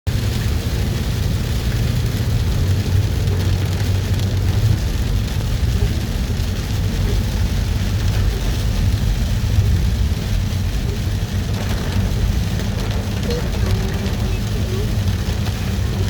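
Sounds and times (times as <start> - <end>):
car road and engine rumble: 0.1 - 16.0
rain hissing on car: 0.1 - 16.0.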